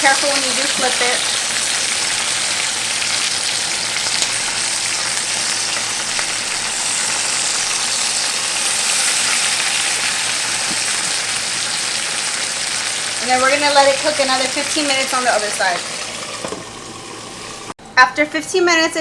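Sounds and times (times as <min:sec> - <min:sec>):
chicken sizzling in hot oil: 0:00.0 - 0:17.8.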